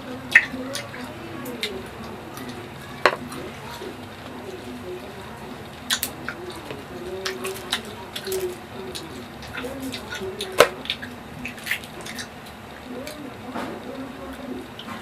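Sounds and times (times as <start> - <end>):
wet chewing of fruit: 0.0 - 15.0.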